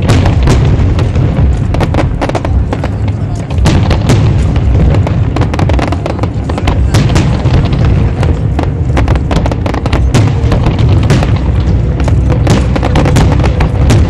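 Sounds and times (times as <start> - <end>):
fireworks bangs and crackles: 0.0 - 14.0
low rumble: 0.0 - 14.0.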